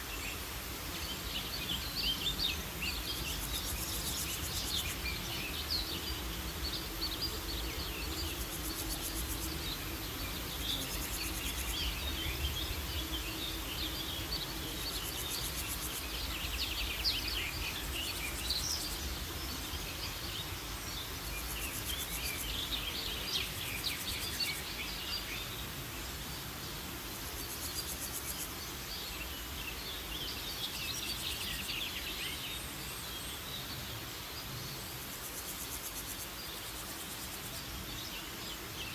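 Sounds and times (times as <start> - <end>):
high pulsing insect chirr: 0.0 - 33.2, 33.8 - 38.9.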